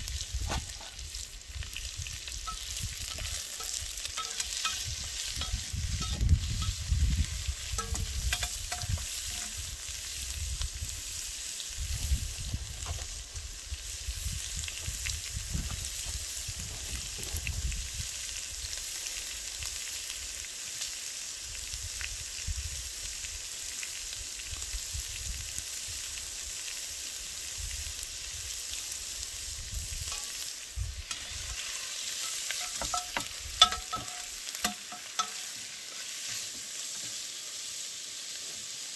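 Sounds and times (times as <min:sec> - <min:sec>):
meat sizzling in a pot: 0:00.0 - 0:38.9.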